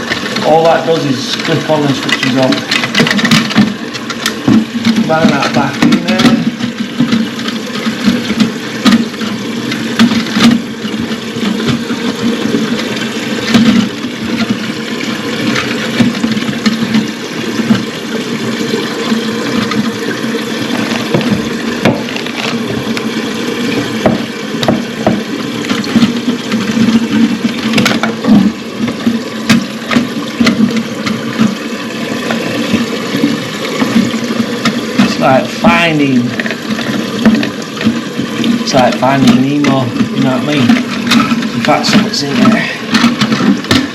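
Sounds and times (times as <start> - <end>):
knocks and clicks: 0.0 - 43.9
water filling toilet cistern: 0.0 - 43.9.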